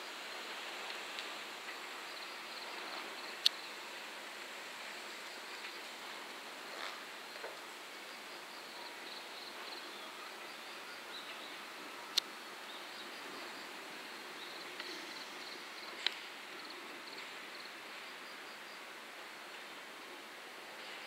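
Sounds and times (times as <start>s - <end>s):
insects chirping: 0.0s - 19.1s.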